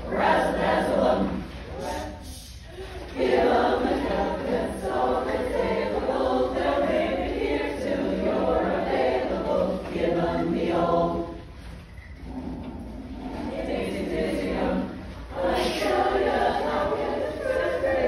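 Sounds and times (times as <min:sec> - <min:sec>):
women's chorus singing: 0:00.0 - 0:18.0.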